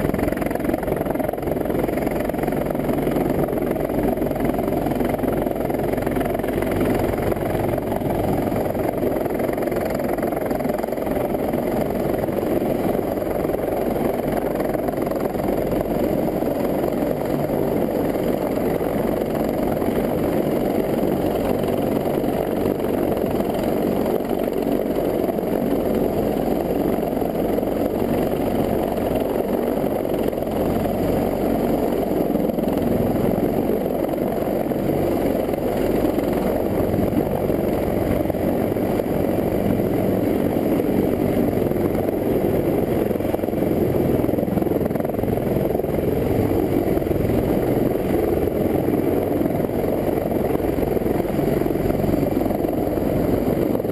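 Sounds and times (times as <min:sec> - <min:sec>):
helicopter rotors and engines droning: 0:00.0 - 0:53.9.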